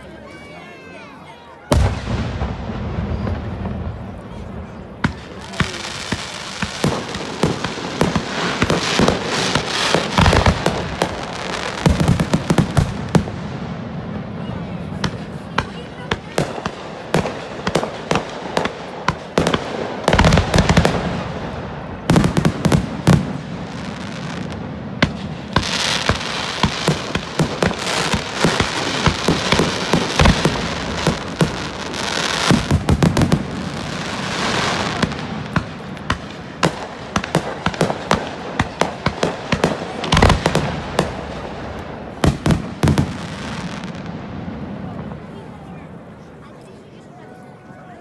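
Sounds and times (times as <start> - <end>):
dense fireworks crackling: 1.6 - 48.0
fireworks sharp bangs: 1.7 - 46.2
deep fireworks booms: 1.7 - 46.3.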